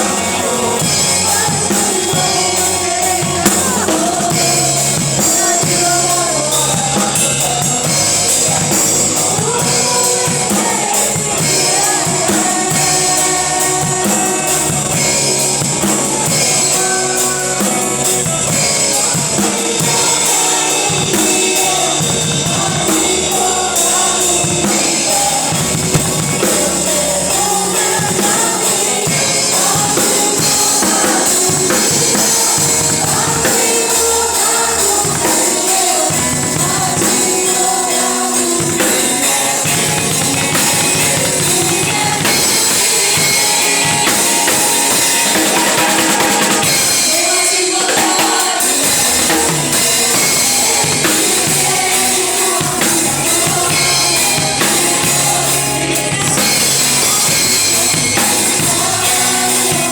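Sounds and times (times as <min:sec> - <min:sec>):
gospel band with drum kit: 0:00.0 - 0:59.9
voices singing: 0:00.0 - 0:59.9.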